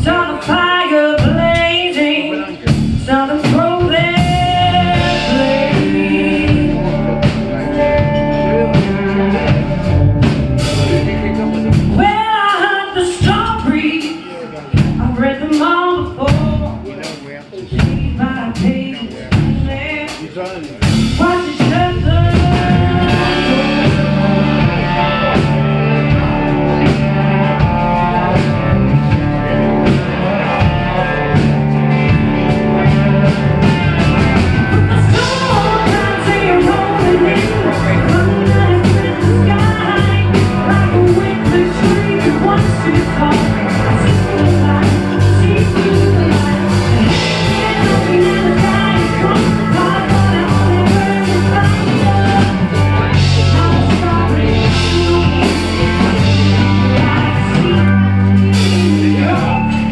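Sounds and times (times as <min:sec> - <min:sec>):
bass guitar: 0:00.0 - 0:59.9
electric guitar: 0:00.0 - 0:59.9
drum beat: 0:02.6 - 0:58.9.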